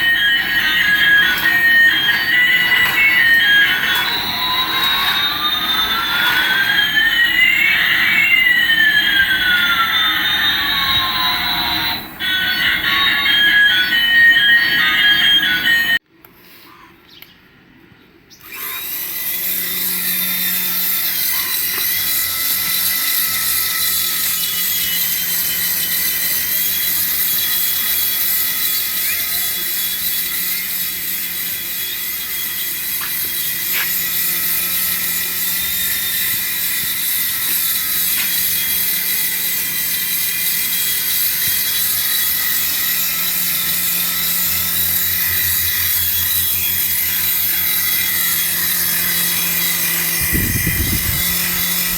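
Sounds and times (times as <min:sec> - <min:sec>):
toy electric motor whining: 0:00.0 - 0:16.0, 0:18.4 - 0:51.9.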